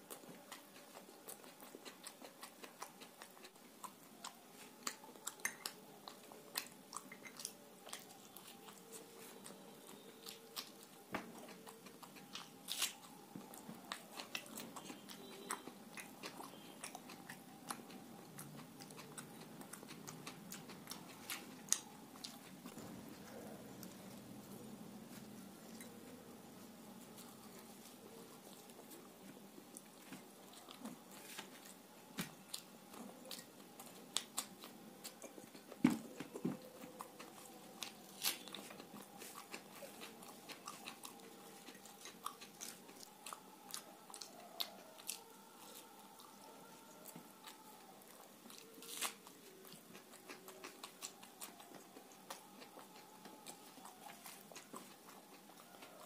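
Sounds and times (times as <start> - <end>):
person biting and chewing: 0.0 - 24.2, 29.7 - 45.8, 48.2 - 56.0.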